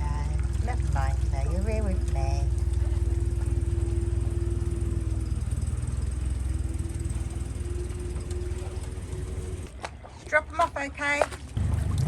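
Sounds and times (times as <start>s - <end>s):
outboard motor puttering: 0.0s - 12.0s.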